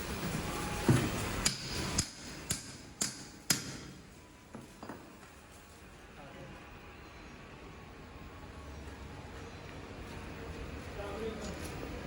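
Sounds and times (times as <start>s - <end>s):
low workshop background: 0.0s - 12.0s.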